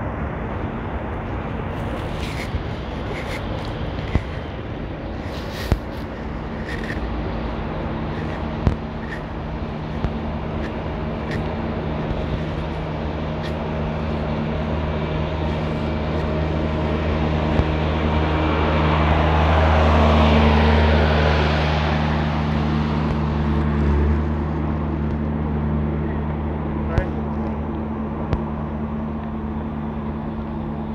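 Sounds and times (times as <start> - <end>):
low engine hum: 0.0 - 30.9
vehicle passing: 1.8 - 26.9.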